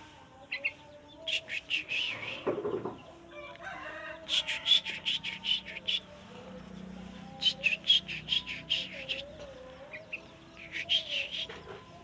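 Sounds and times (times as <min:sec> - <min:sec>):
bulbul singing: 0:00.0 - 0:12.0.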